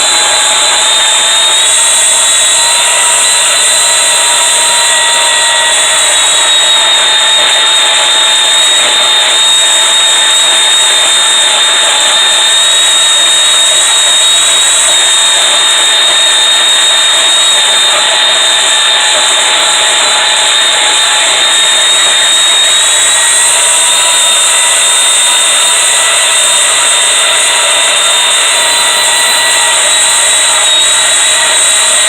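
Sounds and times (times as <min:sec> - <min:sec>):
power saw cutting steel: 0:00.0 - 0:32.0.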